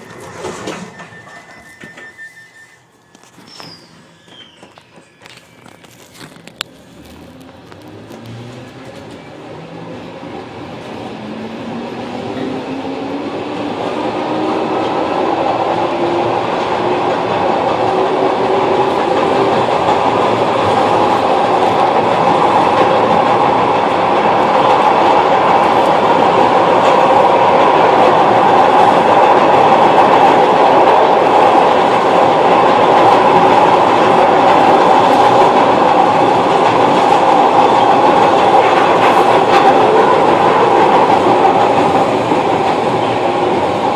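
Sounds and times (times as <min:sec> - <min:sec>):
train running rumble: 0:04.6 - 0:43.9.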